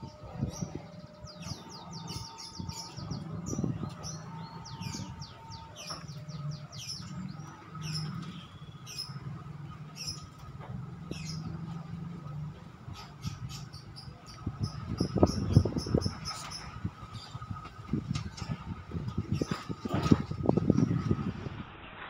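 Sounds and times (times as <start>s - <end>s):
small birds chirping: 0.0s - 21.2s
low hum of approaching train: 0.0s - 22.0s.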